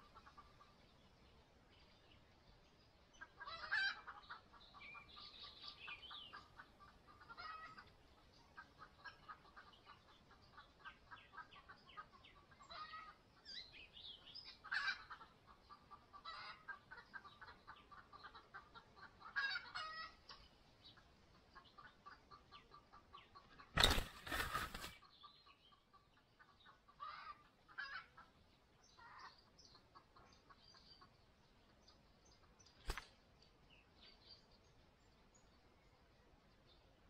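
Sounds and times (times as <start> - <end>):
bird ticking calls: 3.1 - 34.5.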